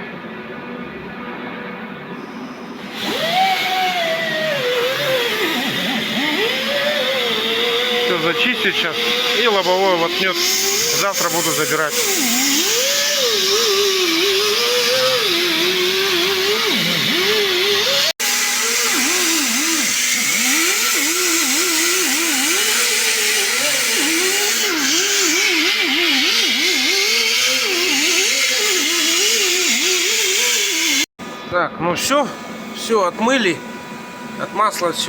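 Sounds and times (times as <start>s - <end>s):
power tool wire brush rasping: 2.8s - 31.1s.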